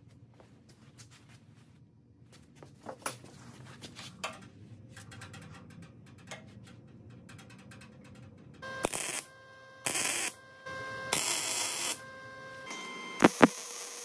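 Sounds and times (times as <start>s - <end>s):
low background hum: 0.0s - 13.9s.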